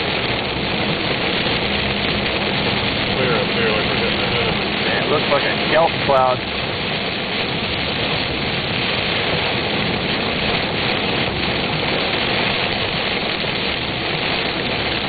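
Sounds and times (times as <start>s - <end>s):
rain rushing: 0.0s - 15.0s
tyre noise on wet road: 0.0s - 15.0s.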